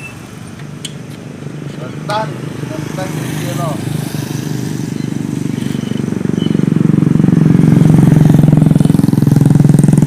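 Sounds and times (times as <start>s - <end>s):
motorcycle engine running: 1.4s - 10.0s.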